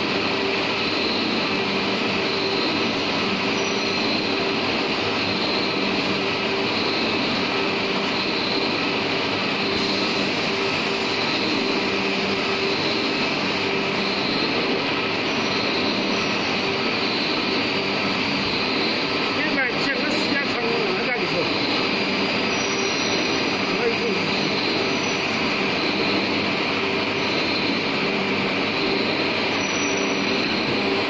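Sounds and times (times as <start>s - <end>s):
machinery rushing hum: 0.0s - 31.0s.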